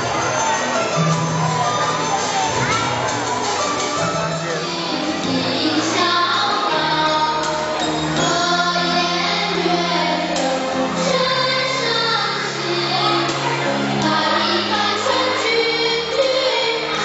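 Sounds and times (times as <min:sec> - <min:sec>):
backing music with bass notes: 0:00.0 - 0:17.0
children singing: 0:00.0 - 0:17.0.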